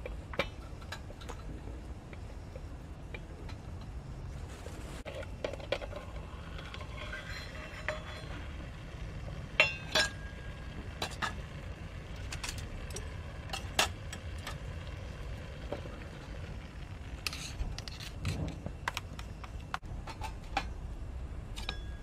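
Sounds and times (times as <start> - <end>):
twig fire crackling: 0.0 - 19.9
low background rumble: 0.0 - 22.0.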